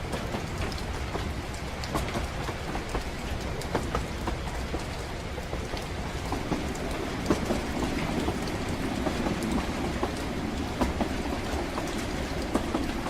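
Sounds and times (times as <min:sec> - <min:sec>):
rain ticking on windows: 0:00.0 - 0:13.0
train wheels rumbling on track: 0:00.0 - 0:13.0.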